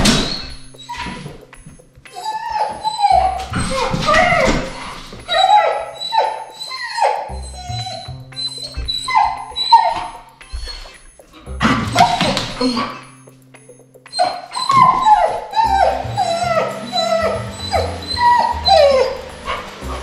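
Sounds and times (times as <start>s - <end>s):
puppy whining: 0.0s - 13.3s, 14.1s - 20.0s
background music: 0.0s - 20.0s.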